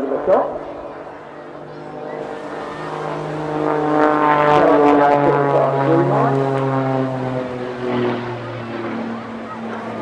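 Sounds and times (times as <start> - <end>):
propeller plane engine droning overhead: 0.0 - 10.0.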